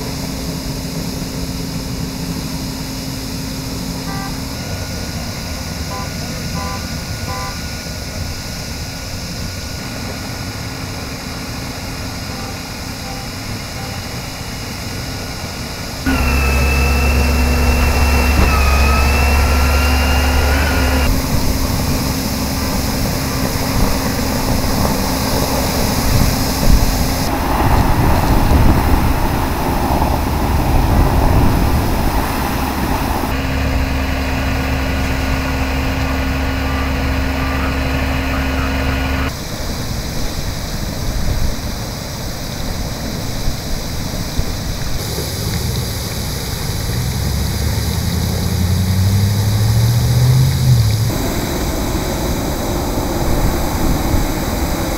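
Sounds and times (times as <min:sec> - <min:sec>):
loud rumble: 0:00.0 - 0:39.4, 0:44.9 - 0:54.9
vehicle engines idling: 0:00.0 - 0:41.0, 0:43.0 - 0:54.9
thin steady whine: 0:00.0 - 0:54.9
water spraying from hydrant: 0:00.0 - 0:54.9.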